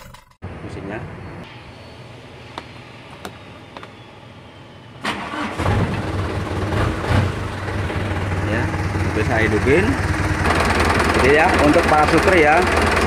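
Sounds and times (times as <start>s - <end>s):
diesel engine starting and running: 1.4s - 13.0s.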